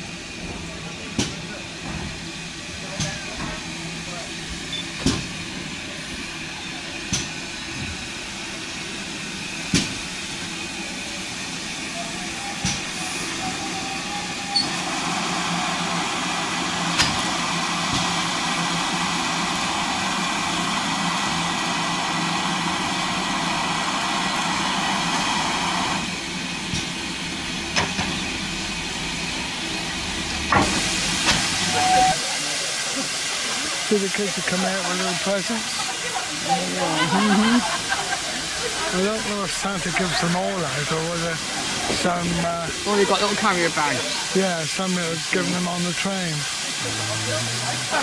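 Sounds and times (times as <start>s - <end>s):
steam locomotive hissing: 0.0s - 48.0s.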